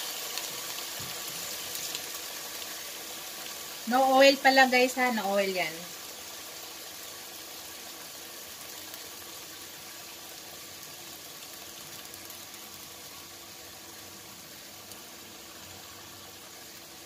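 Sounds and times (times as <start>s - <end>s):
pork chops sizzling in a pan: 0.0s - 17.0s.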